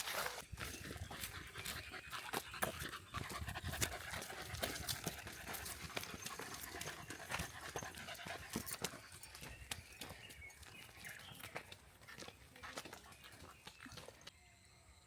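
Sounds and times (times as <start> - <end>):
dog panting: 0.8 - 14.1.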